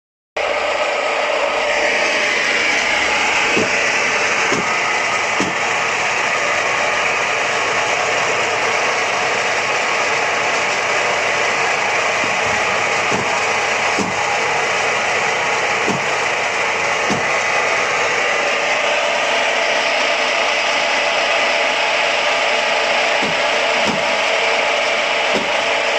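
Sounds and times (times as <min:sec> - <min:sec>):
apple grinder grinding: 0:00.4 - 0:25.9.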